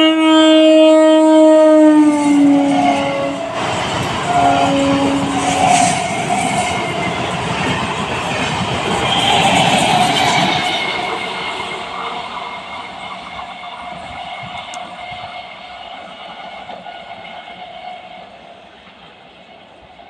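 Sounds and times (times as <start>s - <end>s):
electric train running: 2.0s - 20.0s.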